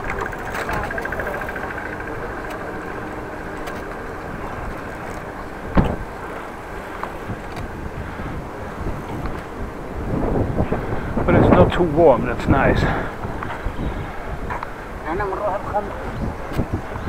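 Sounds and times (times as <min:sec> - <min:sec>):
rumble of bike riding: 0:00.0 - 0:17.0
wind buffeting microphone: 0:00.0 - 0:17.0.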